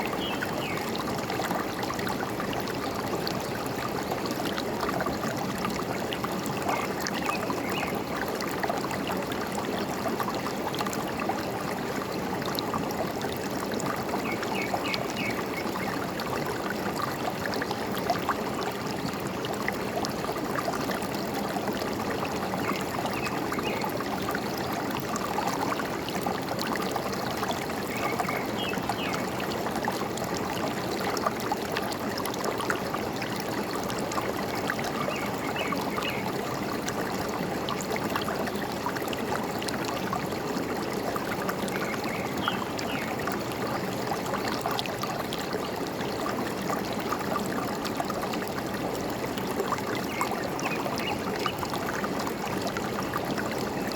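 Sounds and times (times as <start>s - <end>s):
stream running: 0.0s - 53.9s.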